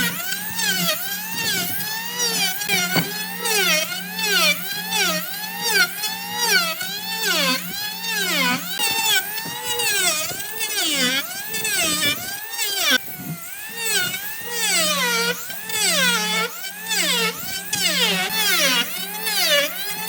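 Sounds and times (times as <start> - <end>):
power tool motor whine: 0.0 - 20.0.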